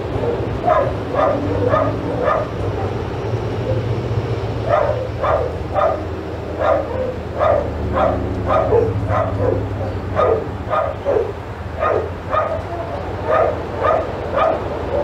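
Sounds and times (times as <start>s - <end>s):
dog barking: 0.1s - 3.9s, 4.6s - 15.0s.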